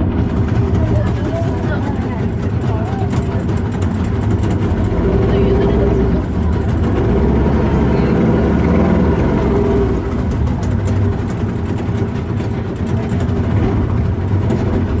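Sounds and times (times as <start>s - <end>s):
boat engine running steadily: 0.0s - 15.0s.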